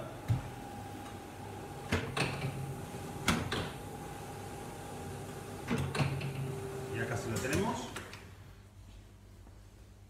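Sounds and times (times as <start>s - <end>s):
dough sheeter humming: 0.0s - 8.1s.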